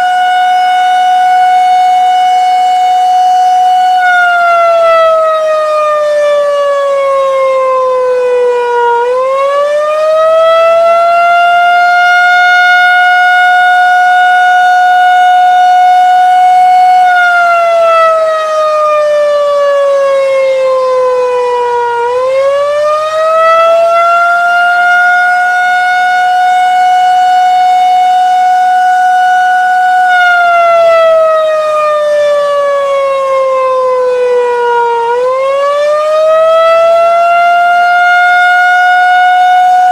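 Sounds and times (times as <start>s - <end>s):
tornado siren wailing: 0.0s - 39.9s.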